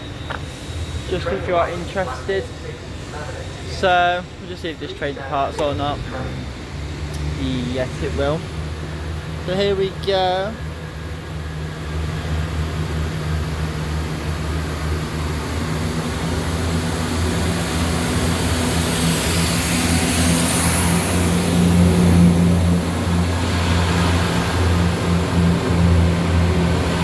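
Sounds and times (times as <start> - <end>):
train engines humming: 0.0 - 27.0.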